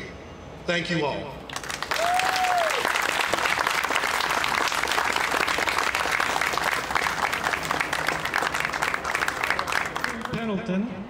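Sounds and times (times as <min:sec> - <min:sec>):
crowd applauding: 0:01.5 - 0:10.4.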